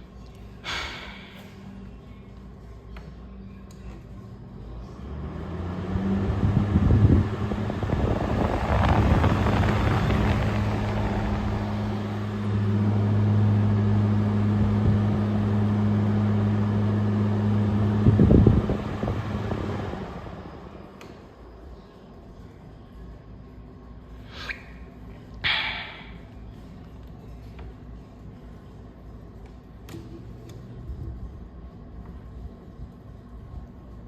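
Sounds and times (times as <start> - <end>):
air conditioner clatter: 0.0 - 22.6, 25.0 - 34.0
air conditioner running: 0.0 - 34.0.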